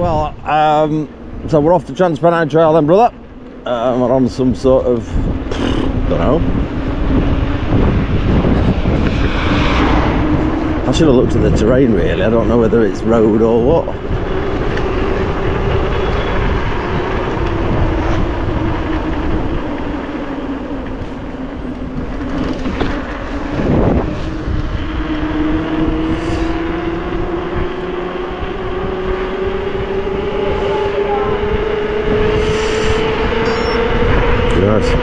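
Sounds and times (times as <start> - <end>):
bike tyre whine: 0.0 - 35.0
rushing noise: 3.7 - 35.0.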